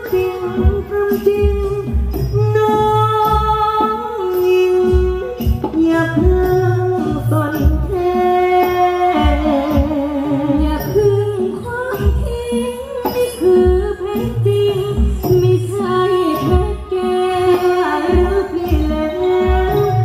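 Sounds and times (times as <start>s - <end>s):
person singing through pa: 0.0s - 20.0s.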